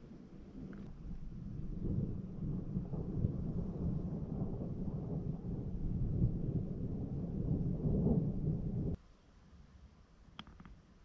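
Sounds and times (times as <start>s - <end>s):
distant thunder rumbling: 0.0s - 9.0s.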